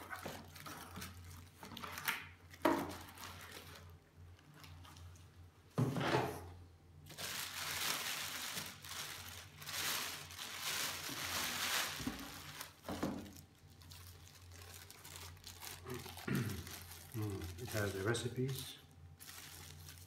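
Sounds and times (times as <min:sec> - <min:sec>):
plastic bag crinkling: 0:00.0 - 0:05.2, 0:07.0 - 0:20.0.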